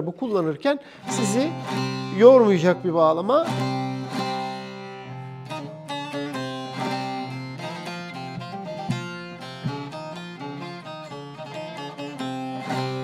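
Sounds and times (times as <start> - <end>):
plucked long-neck lute melody: 1.0 - 13.0.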